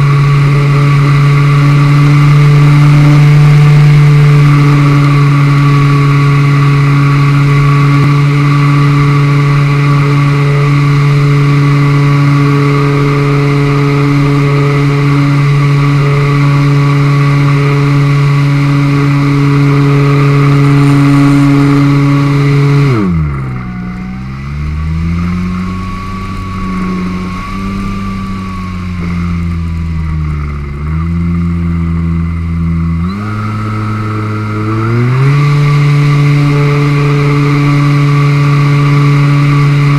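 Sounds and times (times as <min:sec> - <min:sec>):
model plane motor droning: 0:00.0 - 0:39.9.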